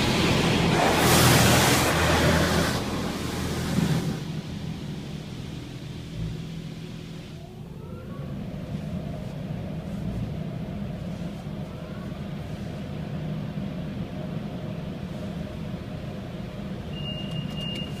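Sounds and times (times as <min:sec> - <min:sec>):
car engine rumbling: 0:00.0 - 0:18.0
road noise: 0:00.0 - 0:18.0.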